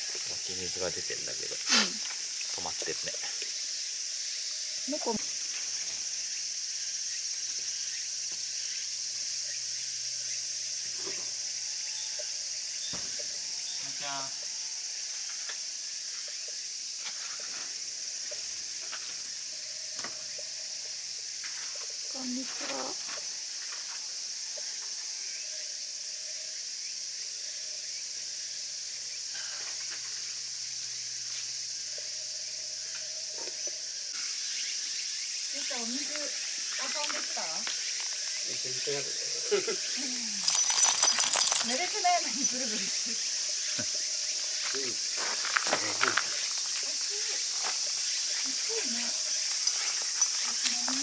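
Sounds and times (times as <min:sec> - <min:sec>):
insects buzzing drone: 0:00.0 - 0:51.0.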